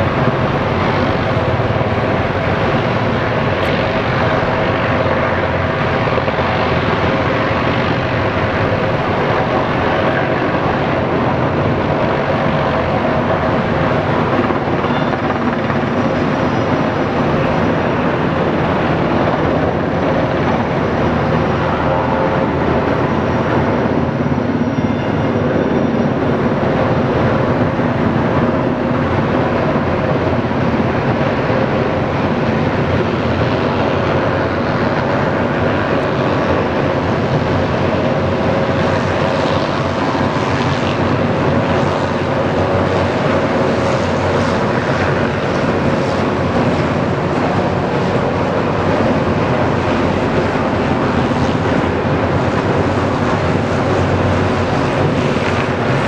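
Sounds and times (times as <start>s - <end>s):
helicopter rotor and engine: 0.0s - 56.0s.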